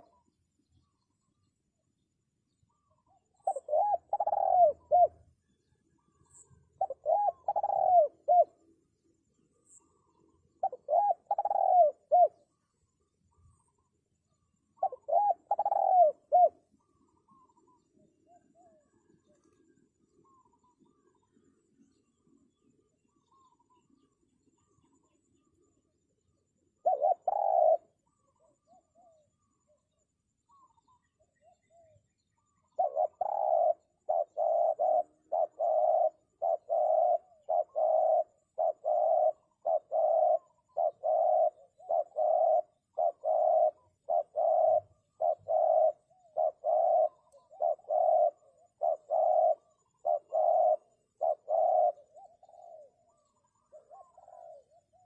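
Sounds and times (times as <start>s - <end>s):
dove cooing: 0.0s - 1.1s, 2.7s - 8.8s, 9.6s - 12.6s, 13.3s - 25.7s, 26.8s - 55.0s.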